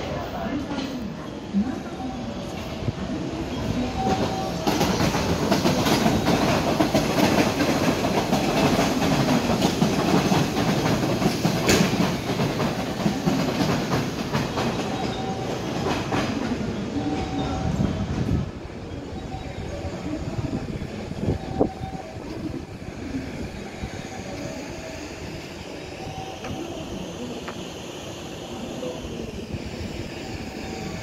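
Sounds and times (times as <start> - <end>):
electric train running past: 0.0 - 31.0.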